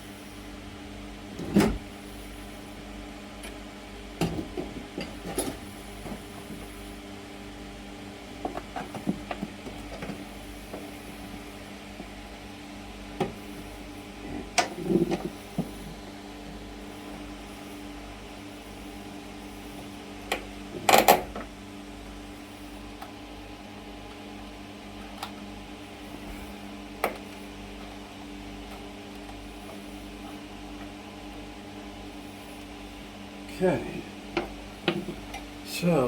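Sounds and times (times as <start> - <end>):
electric fans humming: 0.0 - 36.0.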